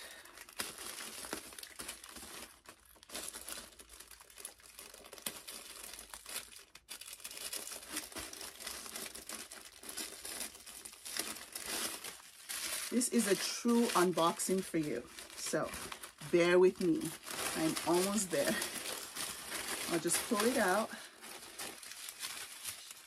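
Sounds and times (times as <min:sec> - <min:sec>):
paper wrapping crinkling: 0:00.0 - 0:23.0.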